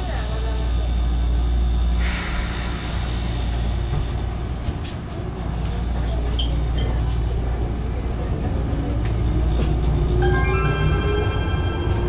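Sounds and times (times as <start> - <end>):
train interior low hum: 0.0 - 12.0.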